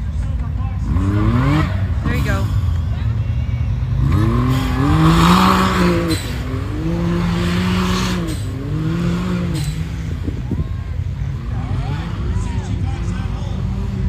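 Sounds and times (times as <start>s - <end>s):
engine revving hard: 0.8s - 2.7s, 3.8s - 14.0s.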